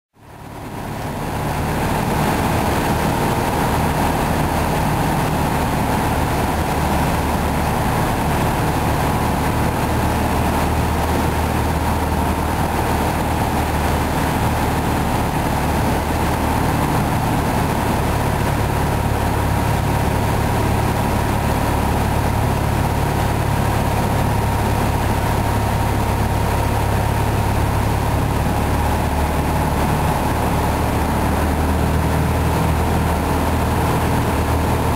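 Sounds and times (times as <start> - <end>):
aircraft engine droning: 0.2 - 34.9
rushing airflow: 0.3 - 34.9.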